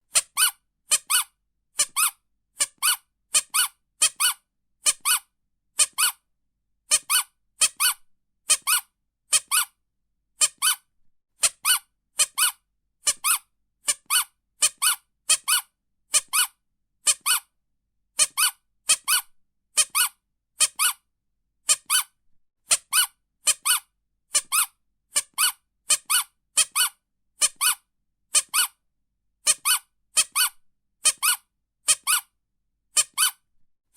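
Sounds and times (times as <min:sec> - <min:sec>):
squeaky toy squeaking: 0:00.1 - 0:06.2, 0:06.9 - 0:09.8, 0:10.4 - 0:17.5, 0:18.2 - 0:28.8, 0:29.4 - 0:33.5.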